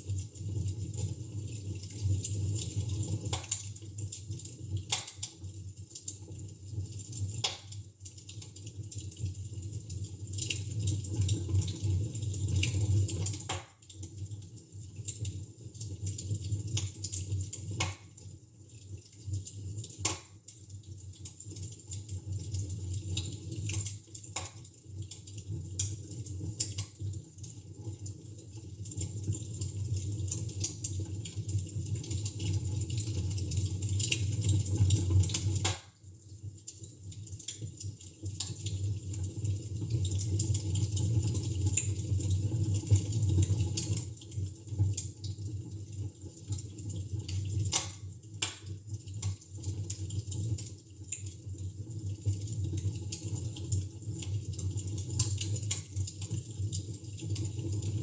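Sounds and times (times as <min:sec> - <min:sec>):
wood fire crackling and popping: 0:00.1 - 0:57.9.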